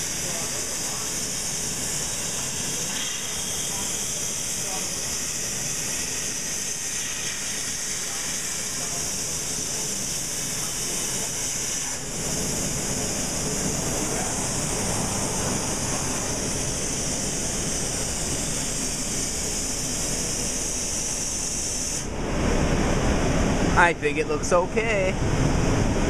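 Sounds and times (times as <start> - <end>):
plasma torch cutting metal hiss: 0.0 - 22.1.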